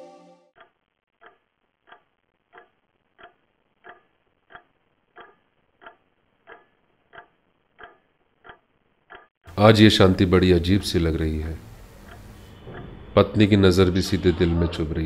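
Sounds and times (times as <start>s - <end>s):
clock ticking: 0.5s - 14.4s.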